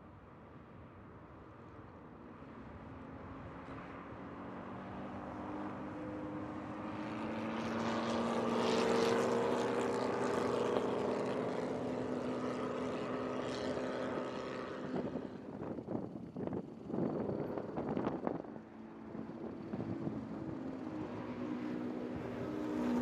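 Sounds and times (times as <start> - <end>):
race car engines droning: 3.4 - 23.0.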